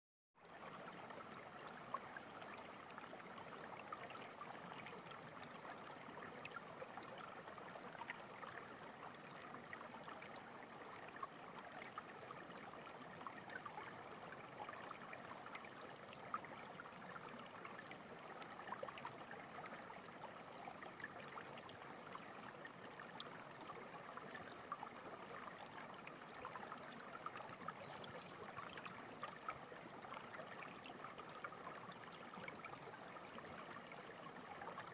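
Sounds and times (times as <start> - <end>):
stream water babbling: 0.4 - 34.9.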